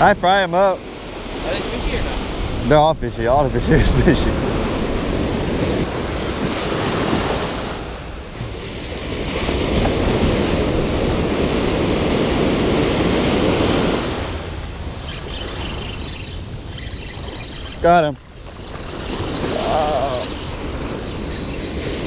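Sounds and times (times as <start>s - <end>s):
ocean surf rushing over sand: 0.0s - 16.7s, 17.7s - 22.0s.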